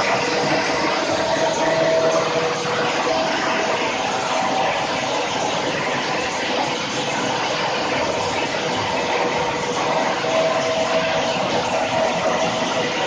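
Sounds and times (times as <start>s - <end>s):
hammer mill rushing noise: 0.0s - 13.0s.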